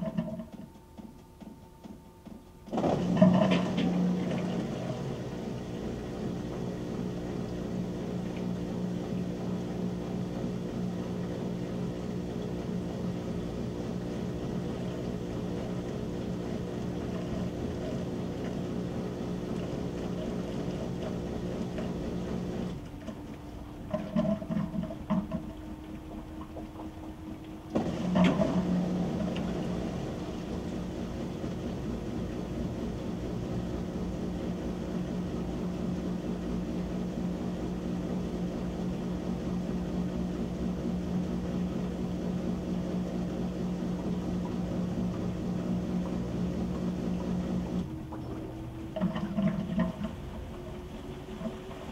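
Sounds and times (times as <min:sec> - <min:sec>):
washing machine spinning hum: 0:00.0 - 0:51.9.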